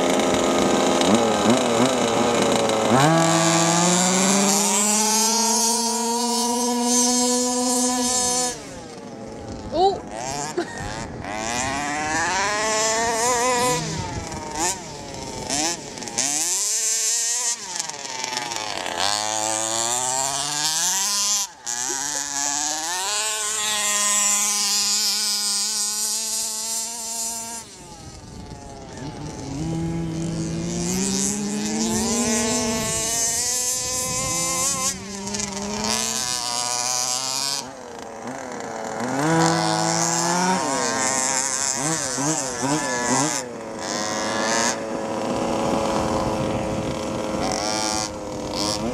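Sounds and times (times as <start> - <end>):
rc car engines revving: 0.0 - 48.9.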